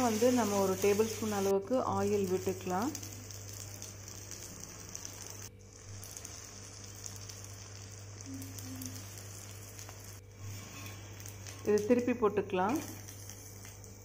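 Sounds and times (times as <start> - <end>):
oil sizzling on griddle: 0.0 - 14.0.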